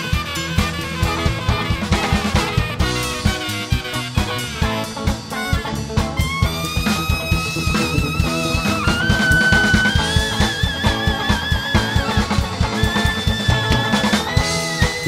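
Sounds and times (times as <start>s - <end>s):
band playing: 0.0s - 15.0s
drum kit beat: 0.0s - 15.0s.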